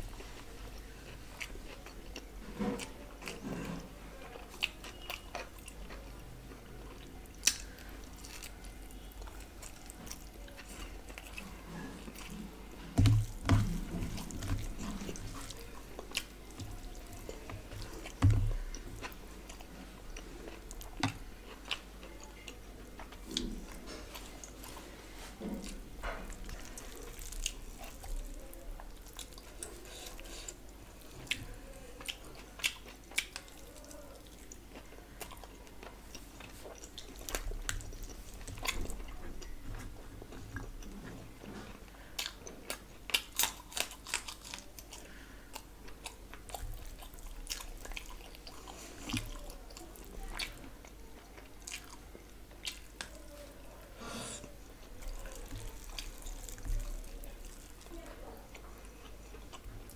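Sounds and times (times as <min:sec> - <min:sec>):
chewing with wet mouth smacks: 0:00.0 - 0:24.8, 0:25.6 - 0:53.6, 0:54.4 - 0:59.9.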